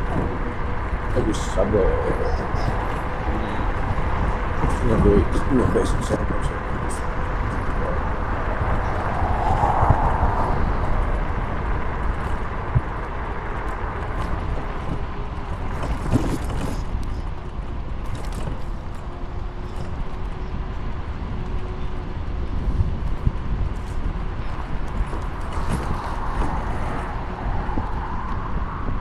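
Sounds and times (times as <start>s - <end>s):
road noise: 0.0s - 29.0s
wind rushing on microphone: 0.0s - 29.0s.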